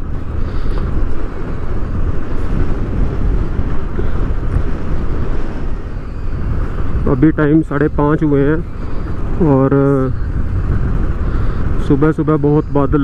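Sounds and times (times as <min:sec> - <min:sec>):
motorcycle engine rumbling: 0:00.0 - 0:13.0
wind rushing over microphone: 0:00.0 - 0:13.0.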